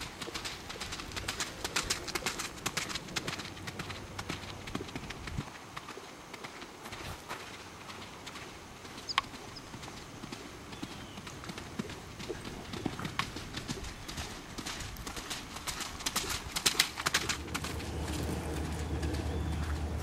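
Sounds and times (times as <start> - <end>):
pony hoofbeats clip-clopping: 0.0 - 20.0.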